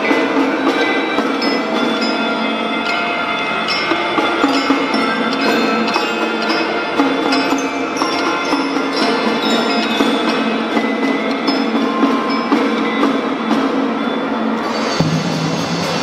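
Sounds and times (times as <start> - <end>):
marching drum band playing: 0.0 - 2.6, 3.8 - 16.0
bell-like keyboard notes: 0.0 - 15.0.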